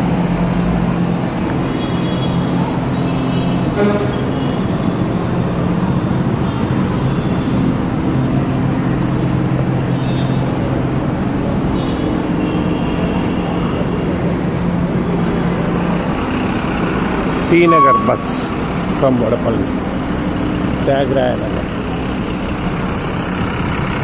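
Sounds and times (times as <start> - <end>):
diesel bus engines idling: 0.0 - 24.0
road noise: 0.0 - 24.0.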